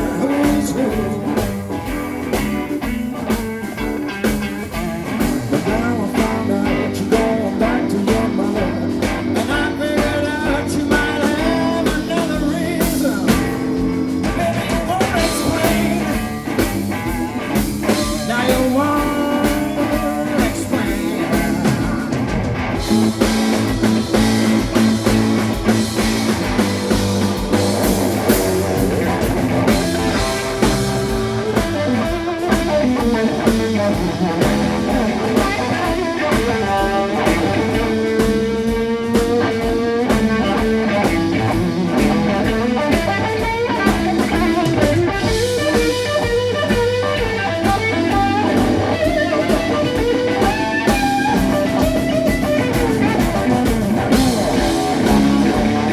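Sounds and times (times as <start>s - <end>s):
bass guitar: 0.0s - 55.9s
drum kit: 0.0s - 55.9s
electric guitar solo: 0.0s - 55.9s.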